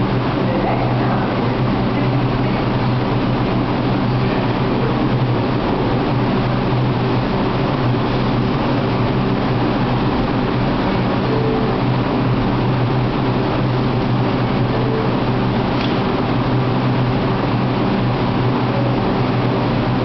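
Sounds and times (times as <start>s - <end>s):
subway train humming: 0.0s - 20.0s.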